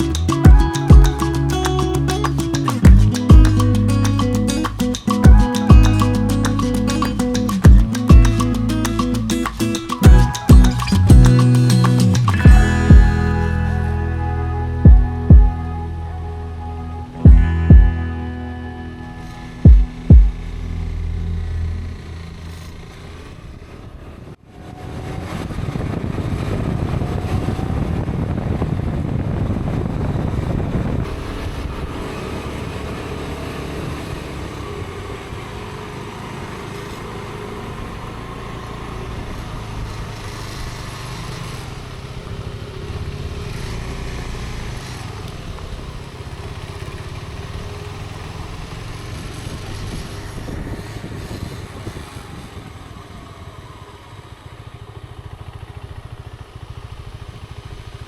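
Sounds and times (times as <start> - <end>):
motorcycle engine running: 0.0 - 15.6, 17.2 - 18.1, 19.6 - 24.1, 25.8 - 58.0.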